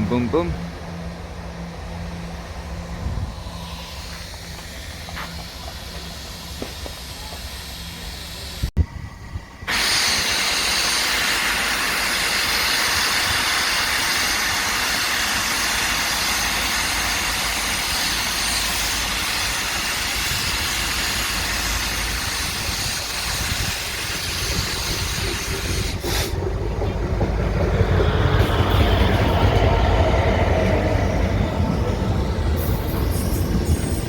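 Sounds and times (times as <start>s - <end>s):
steam locomotive hissing: 0.0s - 34.0s.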